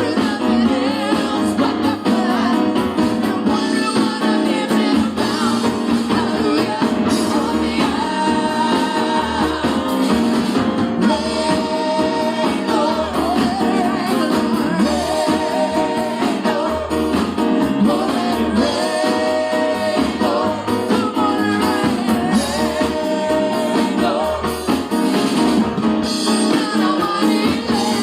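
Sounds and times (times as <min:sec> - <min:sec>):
choir singing gospel music: 0:00.0 - 0:28.0
live band playing: 0:00.0 - 0:28.0.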